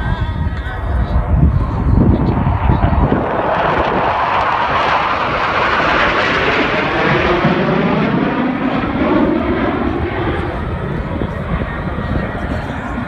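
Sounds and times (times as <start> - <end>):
fighter jets flying past: 0.0 - 13.0.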